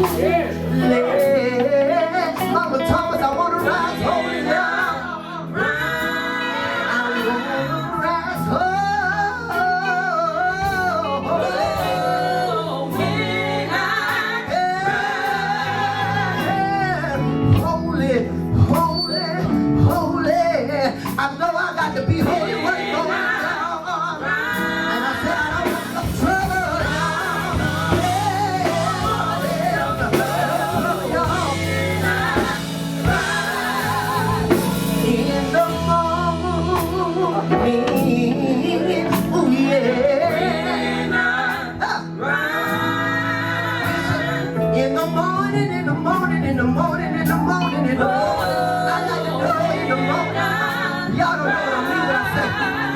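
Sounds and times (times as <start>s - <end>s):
backing band with bass and drums: 0.0s - 52.9s
gospel vocalists singing: 0.0s - 52.9s.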